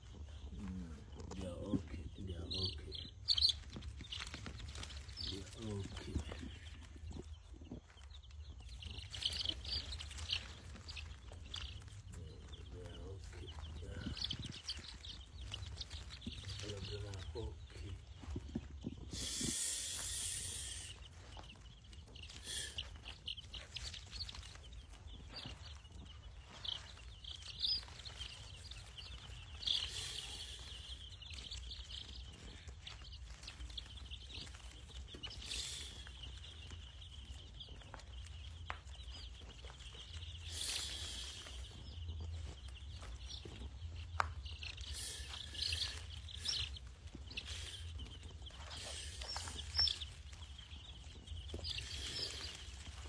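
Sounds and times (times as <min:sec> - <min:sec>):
chicks high calling: 0:00.0 - 0:53.0
chicks peeping: 0:00.0 - 0:53.0.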